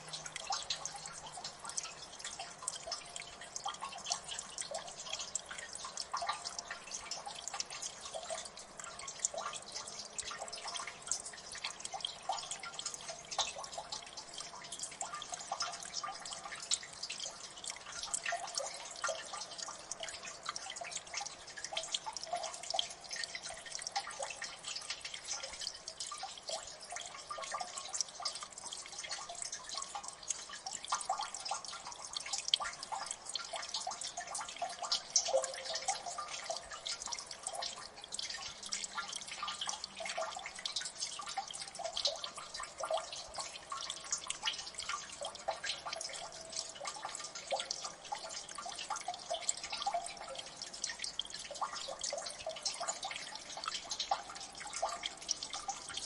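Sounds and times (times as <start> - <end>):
water dripping: 0.0 - 56.0.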